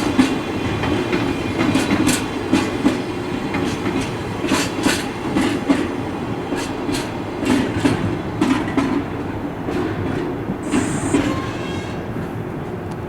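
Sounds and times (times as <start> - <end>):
train rumble: 0.0 - 13.0
train wagons clickety-clack: 0.0 - 13.0.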